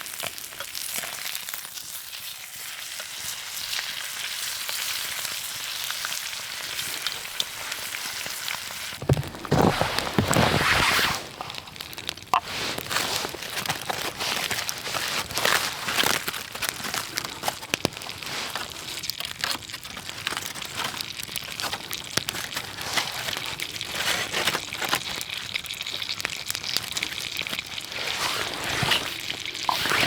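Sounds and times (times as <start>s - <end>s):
campfire cooking crackle and sizzle: 0.0s - 30.0s.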